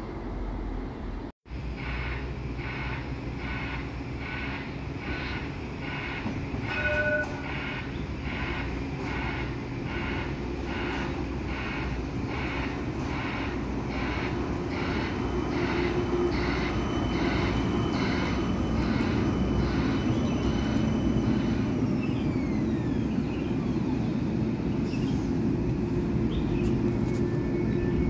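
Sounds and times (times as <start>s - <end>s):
tram rumbling and whining: 0.0s - 28.0s.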